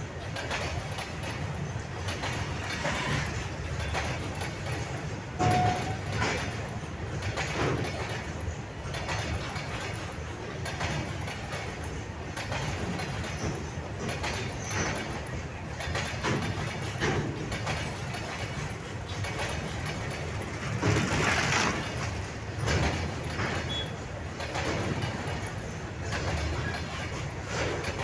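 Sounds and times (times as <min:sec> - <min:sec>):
freight train rumbling past: 0:00.0 - 0:28.0
metallic clanks from wagons: 0:00.1 - 0:28.0.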